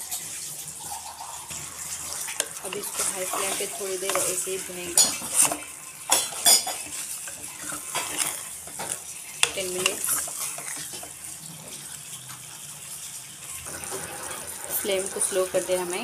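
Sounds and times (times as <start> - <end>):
meat sizzling: 0.0 - 16.0
spatula scraping metal pot: 1.4 - 12.5, 13.5 - 16.0.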